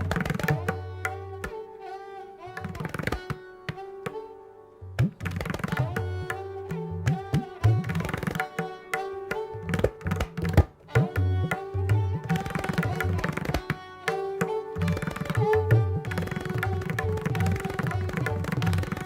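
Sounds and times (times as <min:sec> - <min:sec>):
tabla drumming: 0:00.0 - 0:01.6, 0:02.6 - 0:04.2, 0:05.0 - 0:19.0
bowed string melody: 0:00.0 - 0:19.0.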